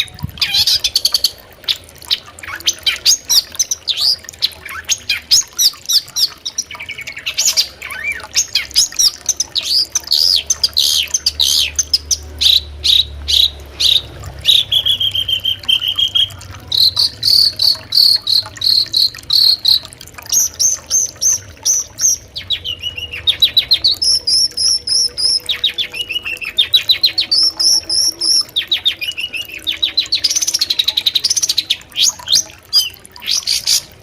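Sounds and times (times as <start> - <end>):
bird chattering song: 0.0 - 34.0.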